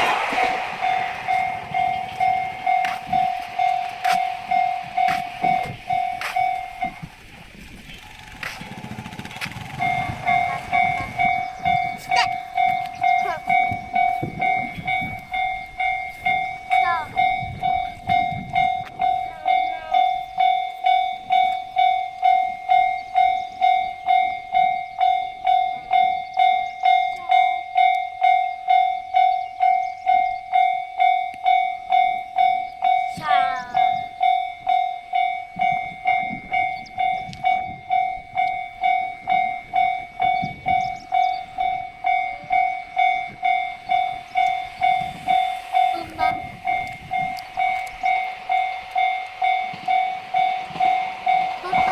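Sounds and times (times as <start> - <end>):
level crossing warning bell: 0.0 - 51.9.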